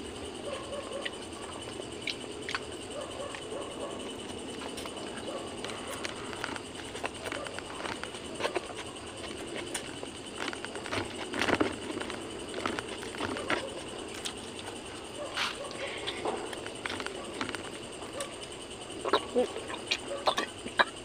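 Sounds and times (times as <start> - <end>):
wet chewing and lip smacks: 0.8 - 21.0.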